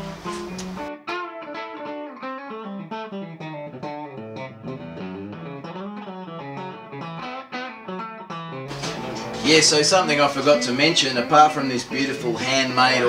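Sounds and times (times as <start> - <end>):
guitar picking quick melody: 0.0 - 13.0.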